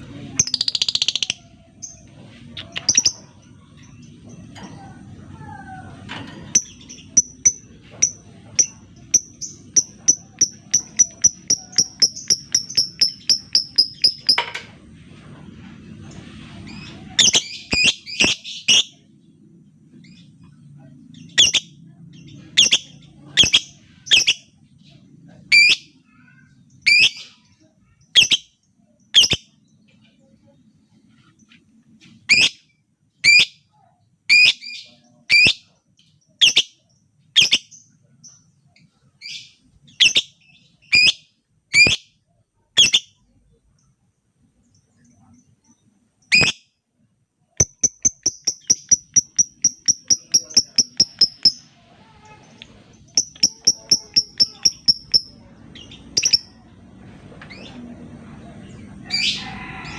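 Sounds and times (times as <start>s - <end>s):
lovebird chirping: 0.0s - 5.7s, 6.5s - 14.5s, 16.6s - 19.1s, 19.9s - 30.6s, 32.2s - 46.8s, 47.5s - 56.7s.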